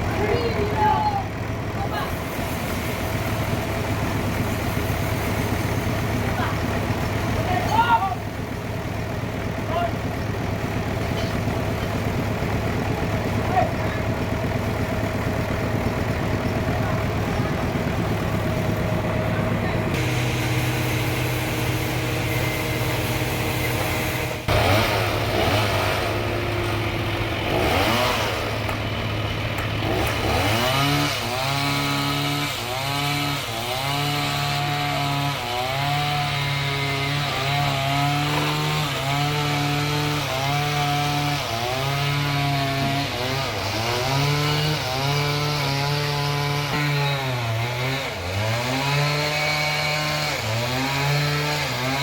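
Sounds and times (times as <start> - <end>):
saw cutting through log: 0.0 - 52.0
sawmill engine running: 0.0 - 52.0.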